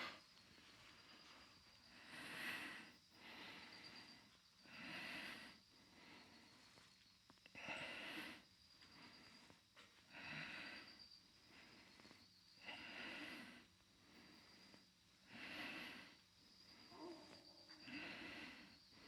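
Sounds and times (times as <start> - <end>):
man breathing hard: 1.8 - 6.9, 7.5 - 19.0.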